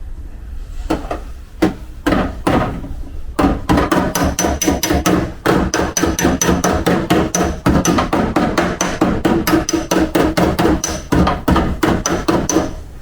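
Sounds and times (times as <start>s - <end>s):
hammer striking steel sheet: 0.9s - 13.0s.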